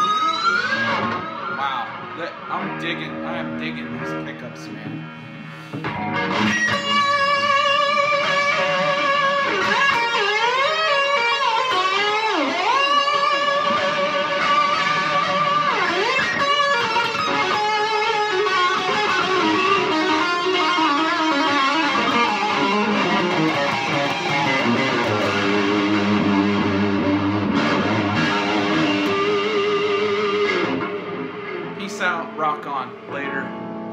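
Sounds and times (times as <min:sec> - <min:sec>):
electric guitar lead with vibrato: 0:00.0 - 0:33.9.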